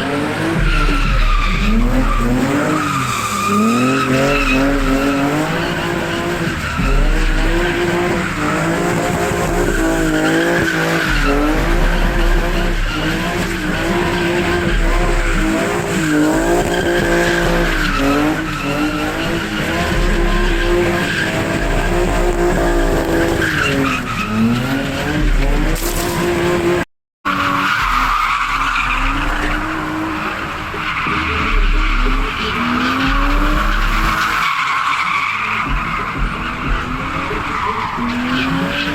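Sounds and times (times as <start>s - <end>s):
car engine revving: 0.0s - 38.9s
tyre squeal: 0.6s - 26.4s, 27.3s - 38.9s.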